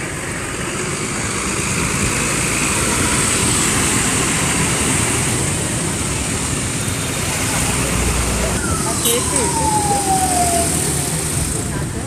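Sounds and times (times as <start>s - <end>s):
bus engine passing: 0.0s - 12.0s.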